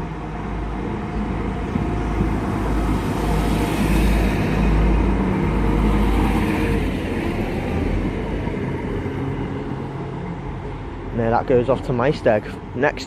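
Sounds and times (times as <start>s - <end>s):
diesel train engine rumble: 0.0s - 13.0s.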